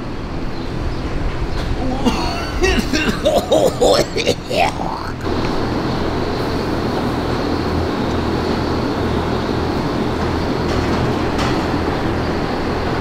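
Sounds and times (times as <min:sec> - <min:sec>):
barn fans rushing drone: 0:00.0 - 0:13.0
machinery low hum: 0:00.0 - 0:13.0.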